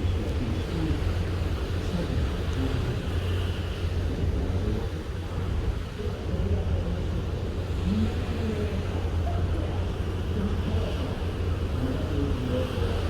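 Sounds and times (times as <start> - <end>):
faint indistinct voices: 0.0 - 13.0
ship low rumble: 0.0 - 13.0.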